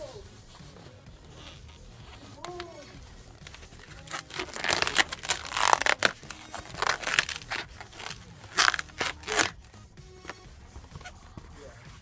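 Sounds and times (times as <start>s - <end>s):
balloon rubber squeaking: 0.0s - 12.0s.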